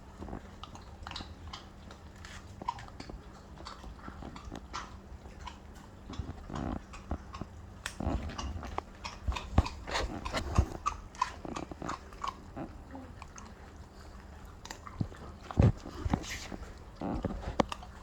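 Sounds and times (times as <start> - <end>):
puppies chewing bones: 0.0 - 18.0.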